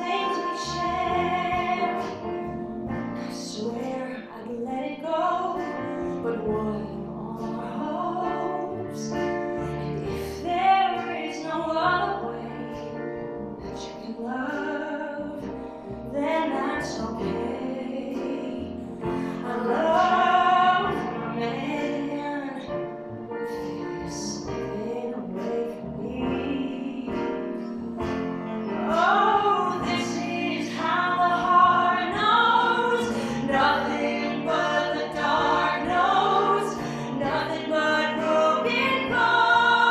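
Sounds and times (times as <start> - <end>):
woman singing: 0.0 - 2.4, 3.2 - 22.8, 23.5 - 27.6, 28.8 - 39.9
acoustic guitar: 0.0 - 39.9
piano: 0.0 - 39.9
upright bass: 0.0 - 39.9.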